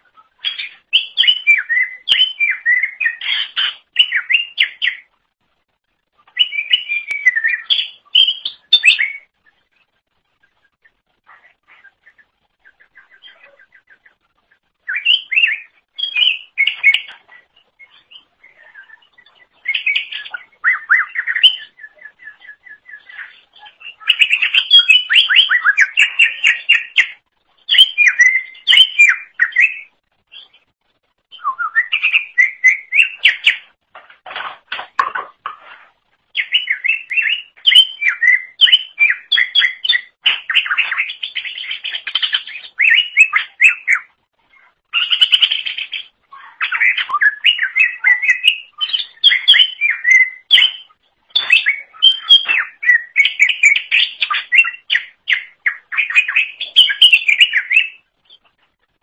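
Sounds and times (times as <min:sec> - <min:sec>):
bird singing chirps and warbles: 0:00.0 - 0:33.8, 0:34.8 - 0:59.0.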